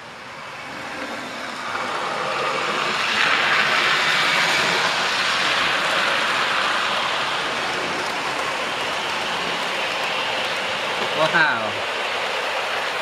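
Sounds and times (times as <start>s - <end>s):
model train wheels rumbling: 0.0s - 13.0s.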